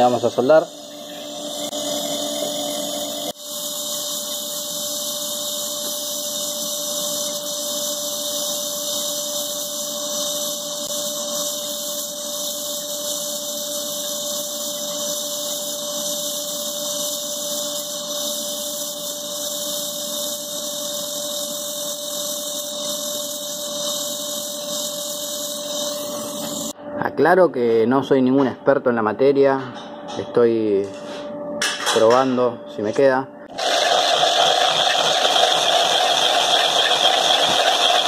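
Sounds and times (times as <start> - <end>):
welding torch flame hissing: 0.0 - 26.8, 33.5 - 38.0.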